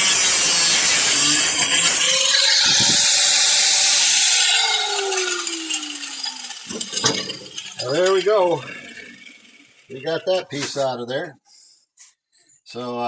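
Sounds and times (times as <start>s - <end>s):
tool whine spinning down: 0.0s - 10.6s
cut-off tool grinding metal: 0.0s - 10.8s.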